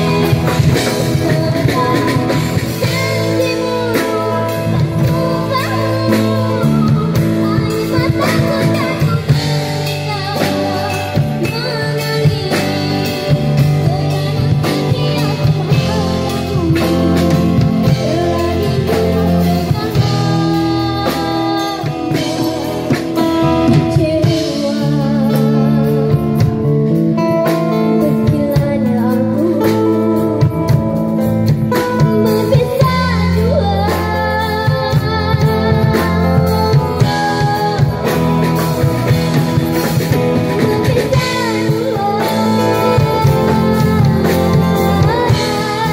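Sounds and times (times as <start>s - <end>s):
drum kit: 0.0s - 45.9s
girl singing into a microphone: 0.0s - 45.9s.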